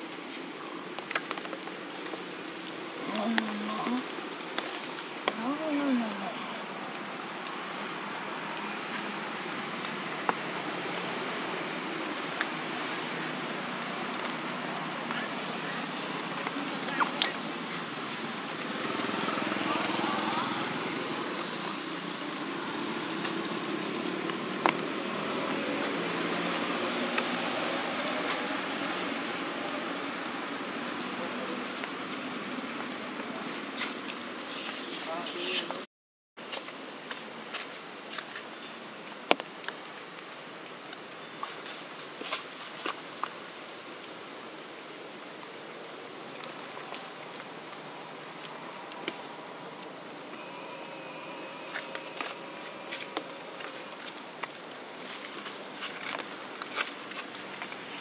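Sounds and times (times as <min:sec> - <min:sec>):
rain falling on ground and water: 0:00.0 - 0:34.4, 0:36.4 - 0:58.0.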